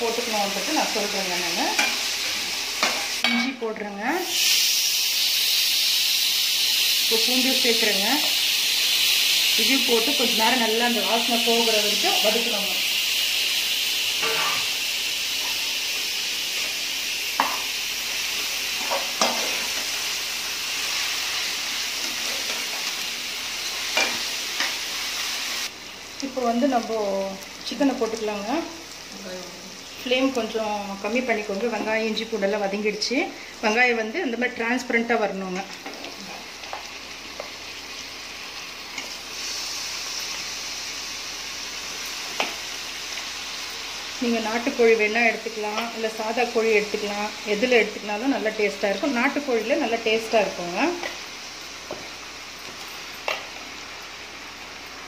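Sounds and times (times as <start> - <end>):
vegetables sizzling in hot oil: 0.0 - 55.0.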